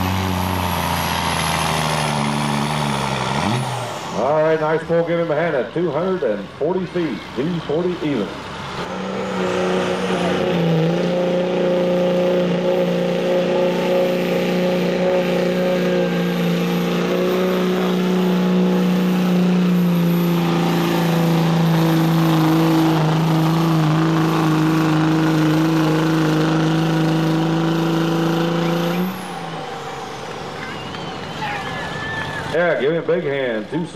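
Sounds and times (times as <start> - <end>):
diesel engine at full throttle: 0.0 - 33.9.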